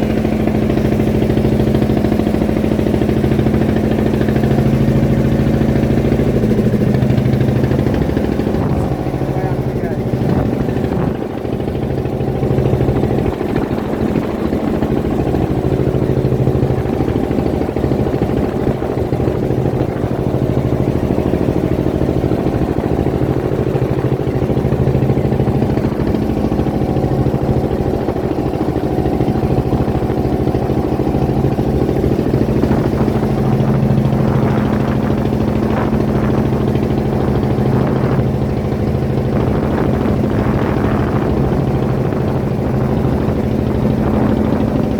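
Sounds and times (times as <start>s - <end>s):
boat engine droning: 0.0s - 44.9s.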